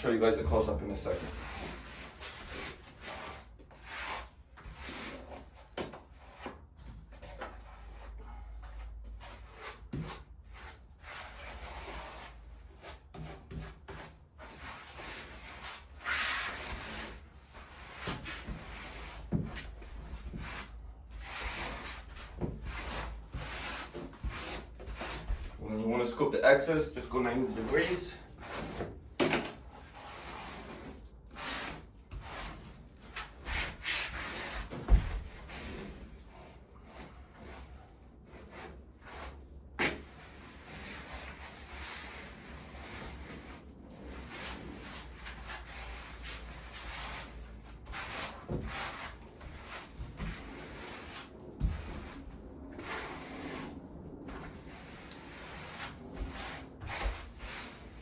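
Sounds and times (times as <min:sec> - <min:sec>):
grout float scraping tiles: 0:01.0 - 0:26.2, 0:27.0 - 0:58.0.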